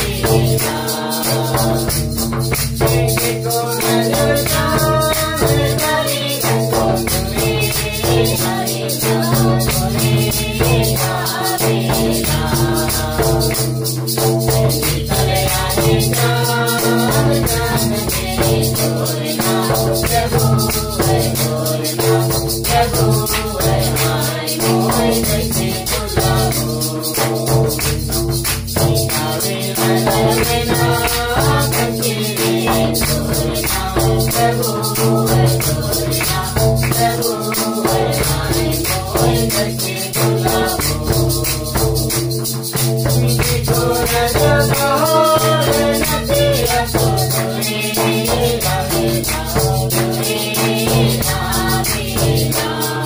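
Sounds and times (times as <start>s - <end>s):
barrel drum: 0.0s - 53.0s
group singing a hymn: 0.0s - 53.0s
hand clapping: 0.0s - 53.0s.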